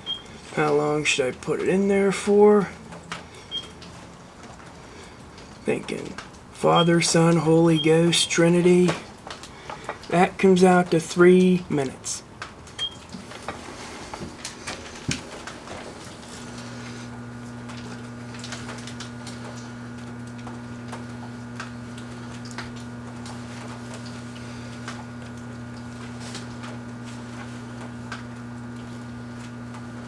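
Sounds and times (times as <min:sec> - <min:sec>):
microwave oven humming: 0:00.0 - 0:30.0.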